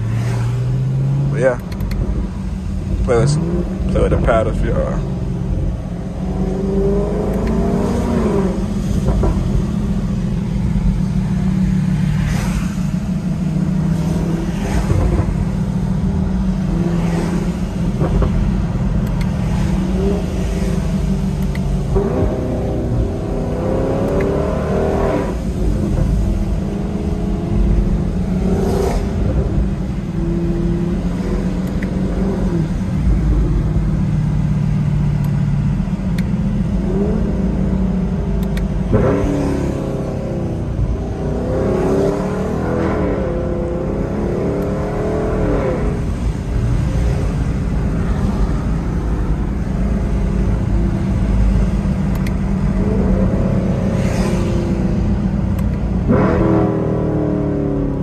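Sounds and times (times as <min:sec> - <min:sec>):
low exhaust rumble: 0:00.0 - 0:39.1, 0:39.7 - 0:56.6
car engine revving: 0:00.0 - 0:58.0.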